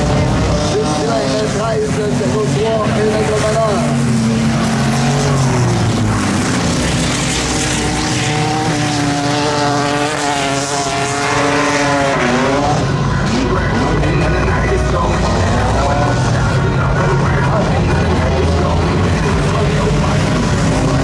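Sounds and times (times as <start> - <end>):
race car engines under load: 0.0 - 21.0.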